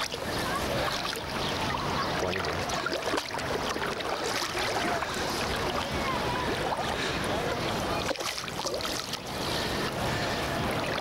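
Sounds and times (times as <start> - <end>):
fish thrashing in water: 0.0 - 7.1, 8.0 - 9.8.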